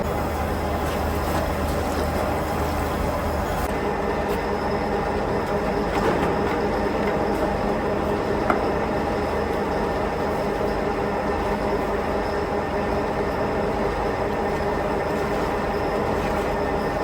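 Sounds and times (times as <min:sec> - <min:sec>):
heavy factory machinery running: 0:00.0 - 0:17.0.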